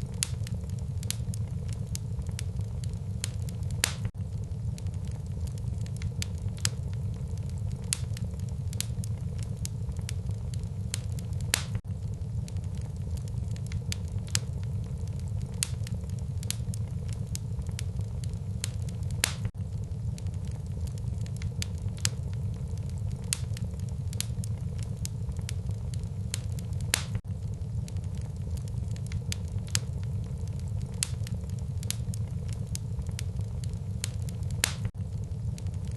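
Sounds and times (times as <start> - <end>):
fire rumbling: 0.0 - 35.9
wood fire crackling and popping: 0.0 - 35.9.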